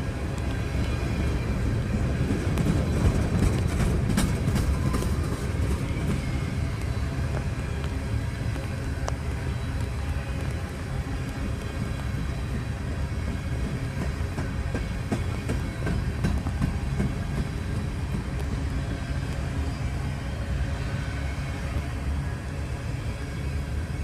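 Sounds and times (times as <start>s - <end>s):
train clicks and clanks: 0.0s - 24.0s
train wheels rumbling on rails: 0.0s - 24.0s.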